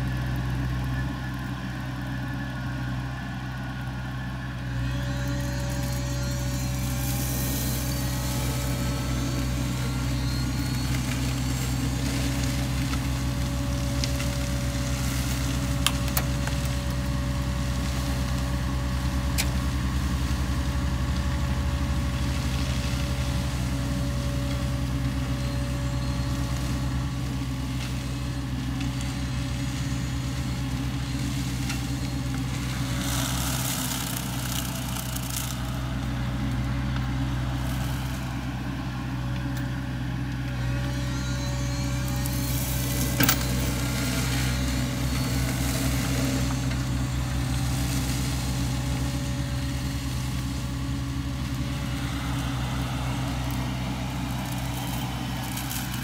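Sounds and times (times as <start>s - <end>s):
diesel engine running: 0.0s - 56.0s
steady whine: 0.0s - 56.0s.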